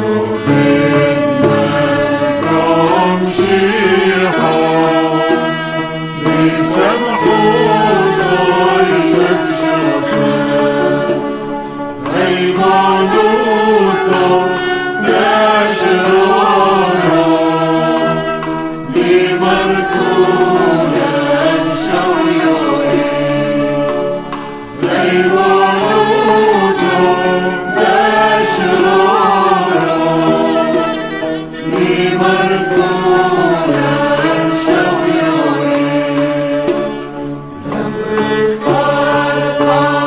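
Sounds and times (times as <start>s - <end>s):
solo chanted vocal melody: 0.0s - 40.0s.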